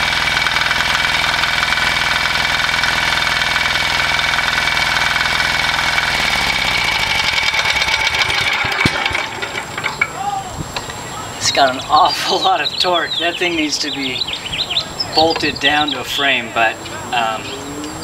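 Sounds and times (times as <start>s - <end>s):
engine knocks winding down: 0.0s - 11.0s, 11.9s - 18.0s
diesel engine running: 0.0s - 18.0s.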